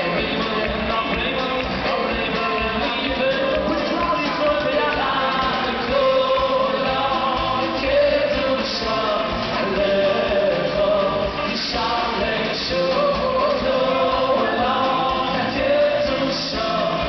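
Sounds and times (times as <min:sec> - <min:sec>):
live band playing: 0:00.0 - 0:17.0
two men singing: 0:00.0 - 0:17.0.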